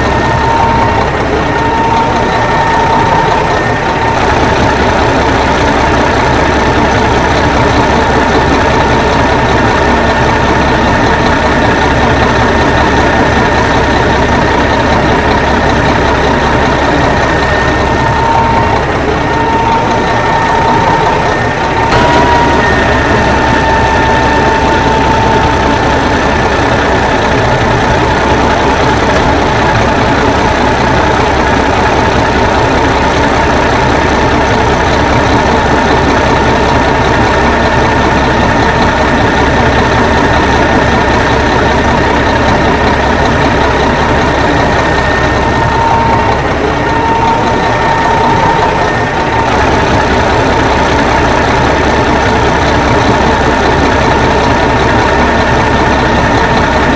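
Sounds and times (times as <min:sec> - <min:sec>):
thin steady whine: 0:00.0 - 0:56.9
truck engine idling: 0:00.0 - 0:56.9.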